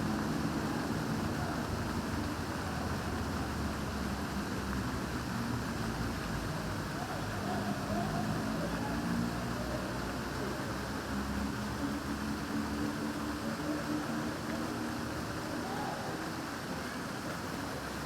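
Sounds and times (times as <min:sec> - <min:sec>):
fountain water splashing: 0:00.0 - 0:18.0
town square background hum: 0:00.0 - 0:18.0.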